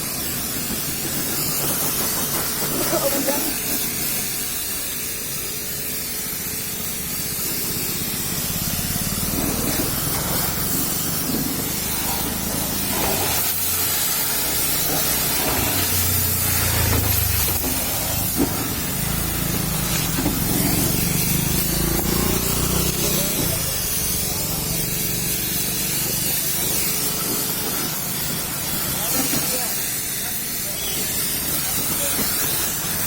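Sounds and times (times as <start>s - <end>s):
pressure washer spraying water: 0.0s - 33.0s.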